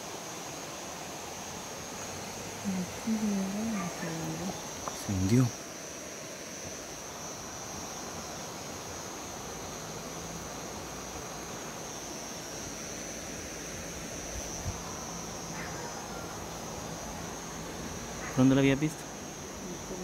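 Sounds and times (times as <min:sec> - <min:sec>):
background hiss: 0:00.0 - 0:20.0
night insects chirring: 0:00.0 - 0:20.0.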